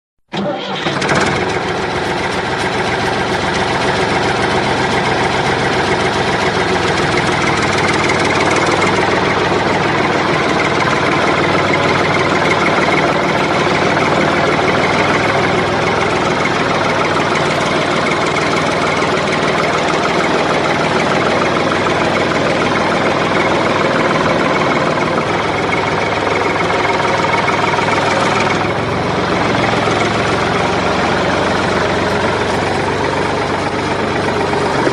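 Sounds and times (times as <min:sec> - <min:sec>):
tractor engine running: 0:00.3 - 0:34.9.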